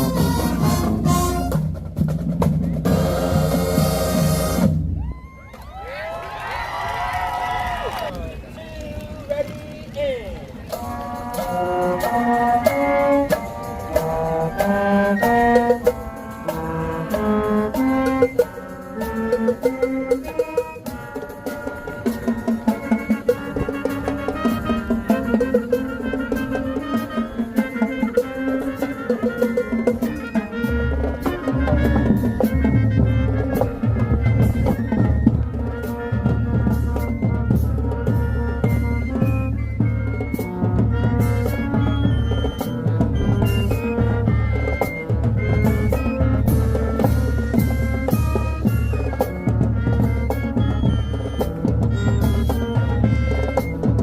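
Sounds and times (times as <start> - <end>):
brass chords: 0.0 - 5.0, 10.7 - 54.0
drum strokes: 0.0 - 5.1, 10.7 - 54.0
marching band playing: 0.0 - 54.0.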